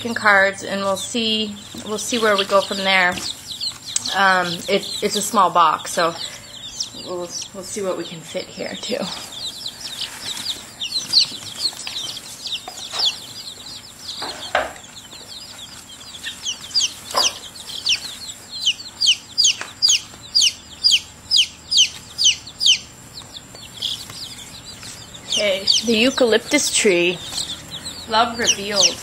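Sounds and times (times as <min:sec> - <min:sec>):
baby chicks peeping: 0:00.0 - 0:29.0.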